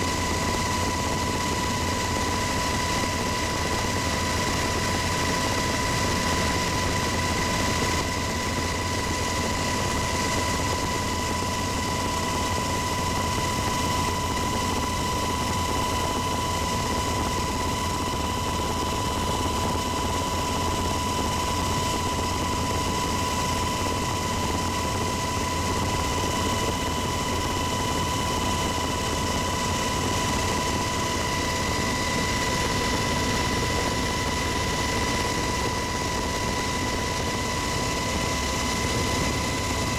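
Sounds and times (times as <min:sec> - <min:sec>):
constant high whine: 0:00.0 - 0:39.9
helicopter rotor and engine rush: 0:00.0 - 0:39.9.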